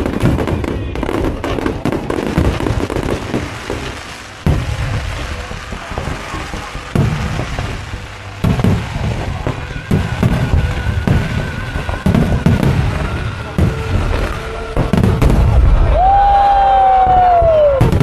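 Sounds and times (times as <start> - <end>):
fireworks booming: 0.0 - 18.0
fireworks crackling: 0.0 - 18.0.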